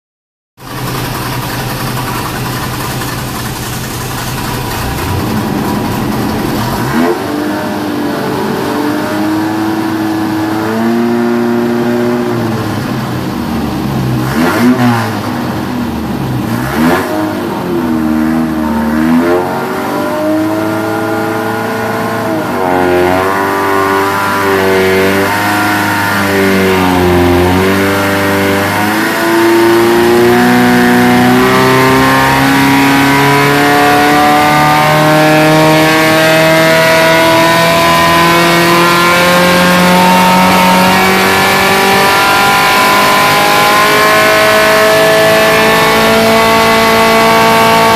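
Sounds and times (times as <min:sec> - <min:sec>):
engine revving on a dyno: 0:00.6 - 0:47.9.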